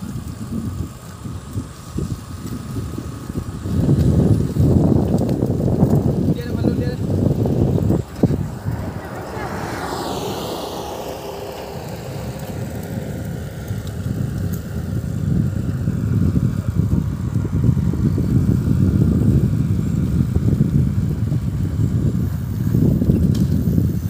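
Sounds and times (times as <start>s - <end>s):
wind and vehicle rumble: 0.0s - 24.0s.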